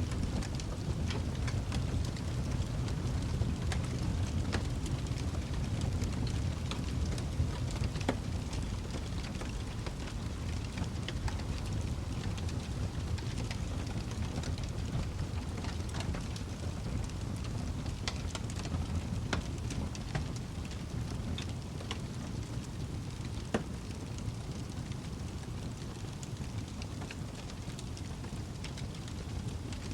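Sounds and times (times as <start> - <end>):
fire crackles and pops: 0.0 - 29.9
fireplace fire rumbling: 0.0 - 29.9.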